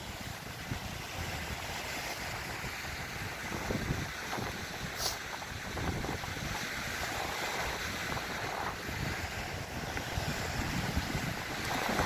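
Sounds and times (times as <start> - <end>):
waves breaking on rocky shore: 0.0 - 12.0
wind buffeting microphone: 0.0 - 12.0.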